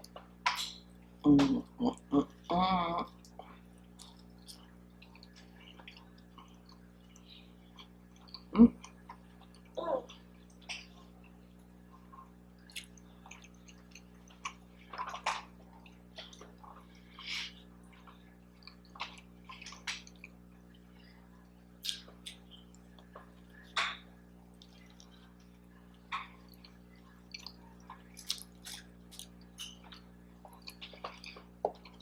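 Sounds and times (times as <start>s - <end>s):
chewing and wet mouth sounds: 3.1s - 32.0s.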